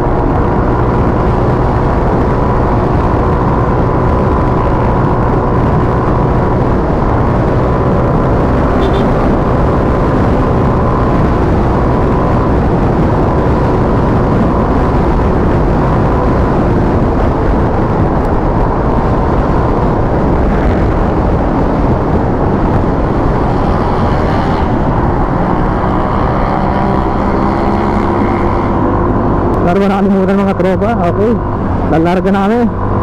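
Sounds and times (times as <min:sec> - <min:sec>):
scooter engine drone: 0:00.0 - 0:33.0
wind rush: 0:00.0 - 0:33.0.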